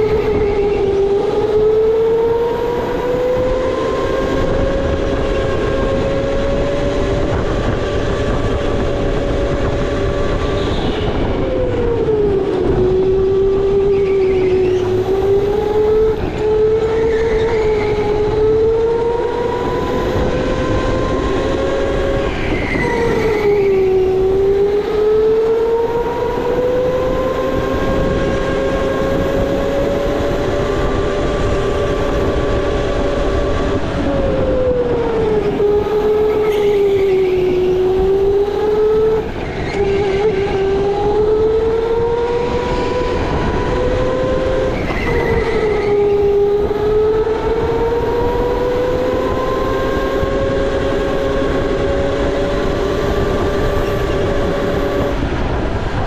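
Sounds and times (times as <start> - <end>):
electric go-kart motor whining: 0.0 - 56.0
tyre and track noise: 0.0 - 56.0.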